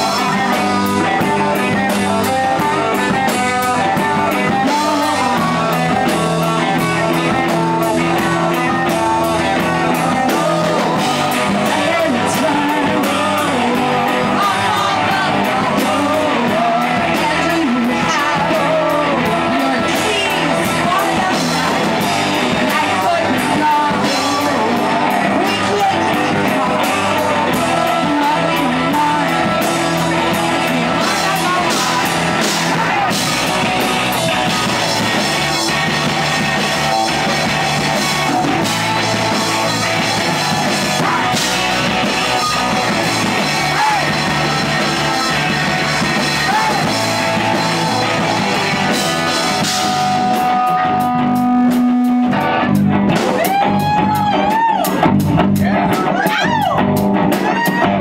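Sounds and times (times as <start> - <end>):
lead vocals singing: 0.0 - 52.3
bass guitar: 0.0 - 58.0
drum kit: 0.0 - 58.0
electric guitars: 0.0 - 58.0.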